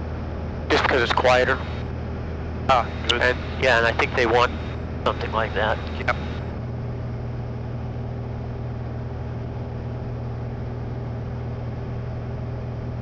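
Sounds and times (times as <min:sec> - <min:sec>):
light airplane engine drone: 0:00.2 - 0:13.0.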